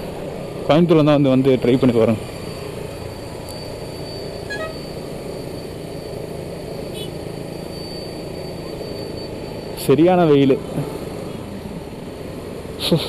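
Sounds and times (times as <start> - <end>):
motorcycle riding noise: 0.0 - 13.0.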